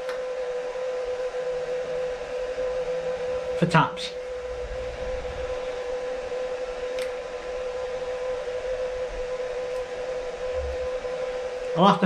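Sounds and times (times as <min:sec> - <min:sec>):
electrical machine hum: 0:00.0 - 0:12.0.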